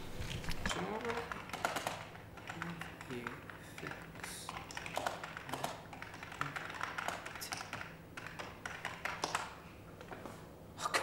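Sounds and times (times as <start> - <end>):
keyboard typing: 0.4 - 9.6.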